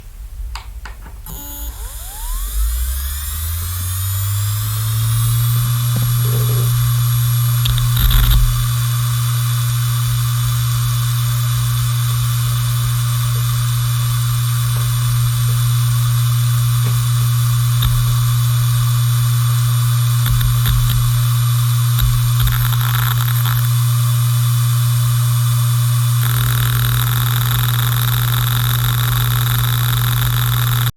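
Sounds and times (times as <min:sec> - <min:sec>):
hard disk spindle hum: 0:01.2 - 0:30.9
hissy whir: 0:01.3 - 0:30.9.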